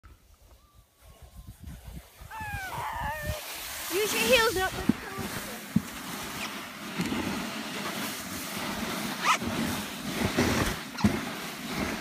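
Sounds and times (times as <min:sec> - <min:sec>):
sledge runners sliding on snow: 0:00.1 - 0:12.0
wind on microphone: 0:00.1 - 0:12.0.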